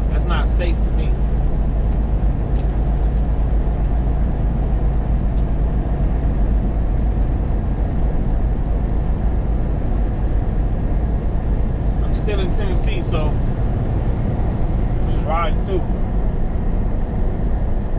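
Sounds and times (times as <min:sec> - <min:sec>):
road noise: 0:00.0 - 0:17.9
truck engine rumble: 0:00.0 - 0:17.9.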